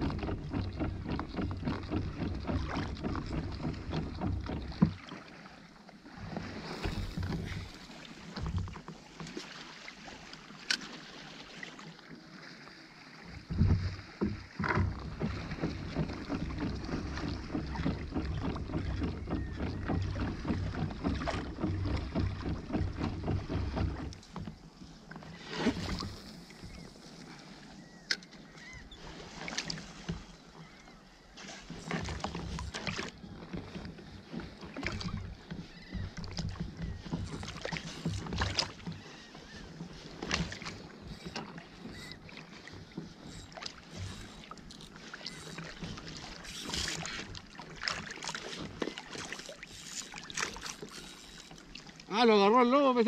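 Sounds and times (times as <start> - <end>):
water splashing along kayak hull: 0.0 - 53.0.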